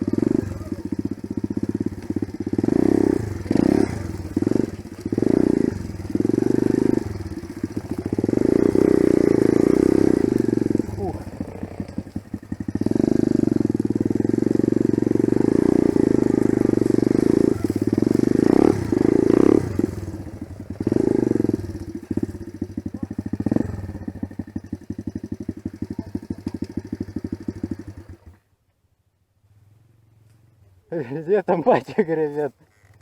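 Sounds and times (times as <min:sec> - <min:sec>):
dirt bike engine revving: 0:00.0 - 0:28.4.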